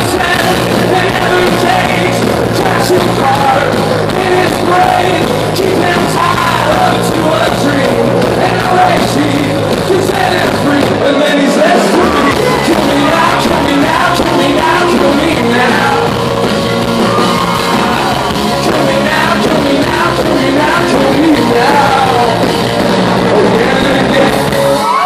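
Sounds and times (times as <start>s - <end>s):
live rock band playing: 0.0s - 25.0s
singer singing: 0.0s - 25.0s.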